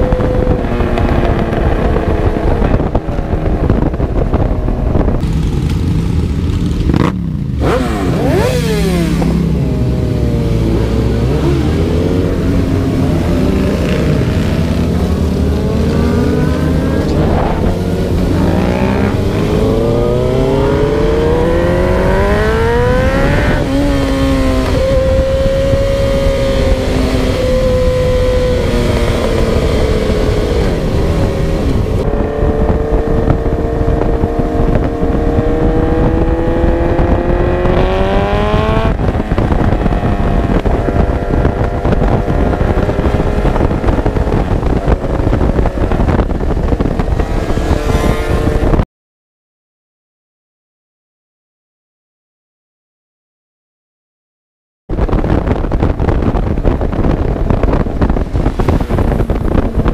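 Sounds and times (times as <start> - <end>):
motorcycle engine accelerating: 0.0 - 48.8, 54.9 - 59.9
wind rumble on microphone: 0.0 - 48.8, 54.9 - 59.9.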